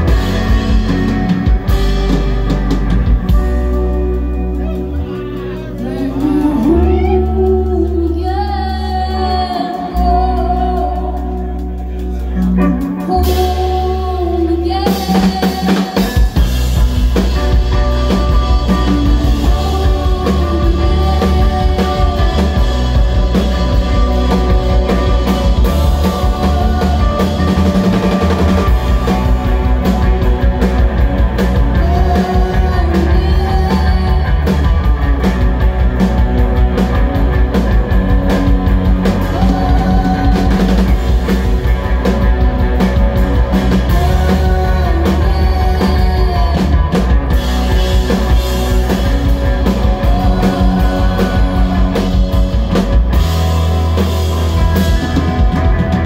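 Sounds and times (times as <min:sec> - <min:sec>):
drum kit: 0:00.0 - 0:56.0
electric bass line: 0:00.0 - 0:56.0
electric guitars: 0:00.0 - 0:56.0.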